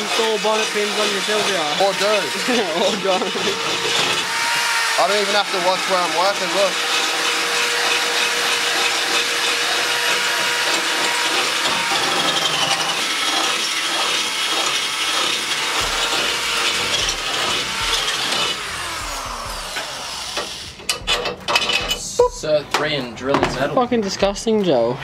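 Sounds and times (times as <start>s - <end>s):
power drill boring sheet metal: 0.0s - 22.1s.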